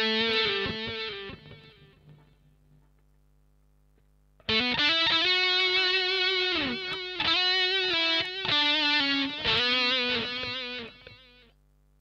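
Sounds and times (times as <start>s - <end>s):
distorted electric guitar: 0.0s - 2.9s, 4.4s - 11.6s.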